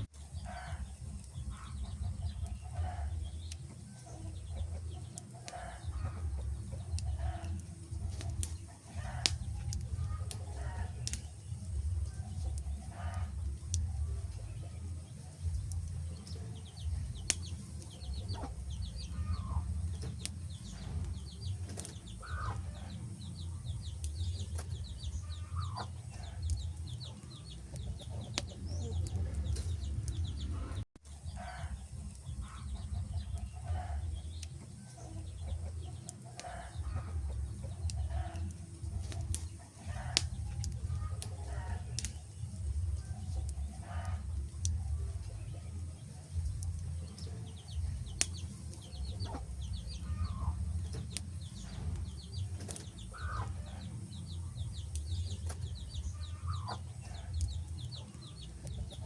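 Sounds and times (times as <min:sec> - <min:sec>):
low fire rumble: 0:00.0 - 0:59.0
wood fire crackling: 0:00.0 - 0:59.0.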